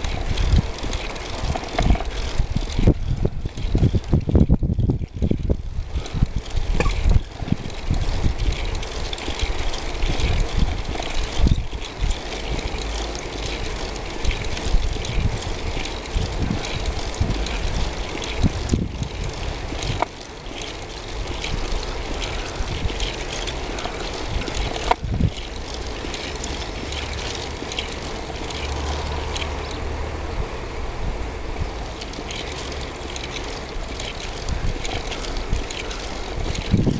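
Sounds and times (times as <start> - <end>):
low rumble of bicycle ride: 0.0 - 36.9
wind on microphone: 0.0 - 36.9.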